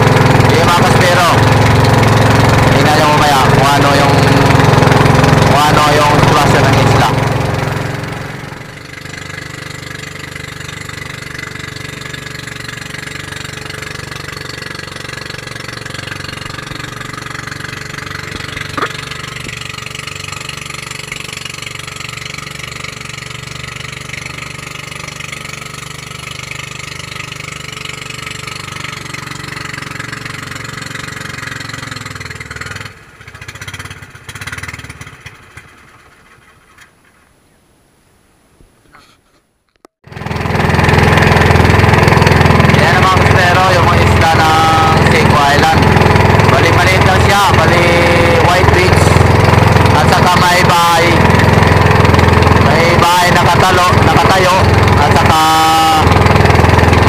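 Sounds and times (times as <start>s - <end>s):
small engine running: 0.0s - 36.8s, 40.0s - 57.0s.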